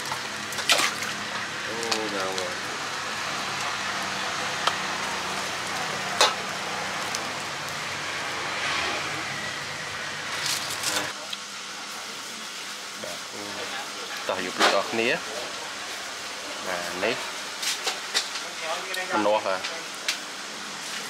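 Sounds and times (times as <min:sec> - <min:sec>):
street background hum: 0:00.0 - 0:21.0.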